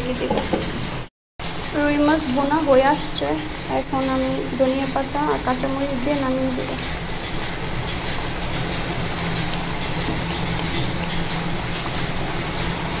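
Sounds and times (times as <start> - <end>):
curry simmering and sizzling in a pan: 1.4 - 13.0.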